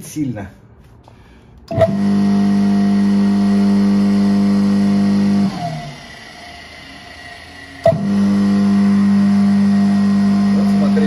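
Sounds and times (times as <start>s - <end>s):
electric motor humming: 1.7s - 11.0s.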